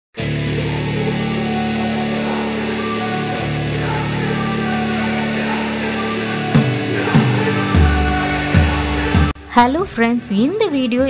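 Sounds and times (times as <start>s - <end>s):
held synth chord: 0.2s - 9.6s
music beat: 0.8s - 11.0s.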